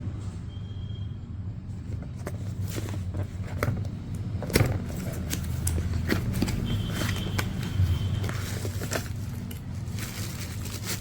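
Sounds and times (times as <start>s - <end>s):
packaging clicks and crackles: 2.0s - 11.0s.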